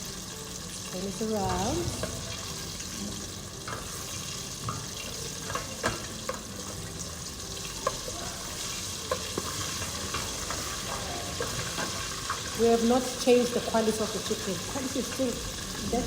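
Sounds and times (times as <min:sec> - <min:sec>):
chicken deep-frying in hot oil: 0:00.0 - 0:16.0.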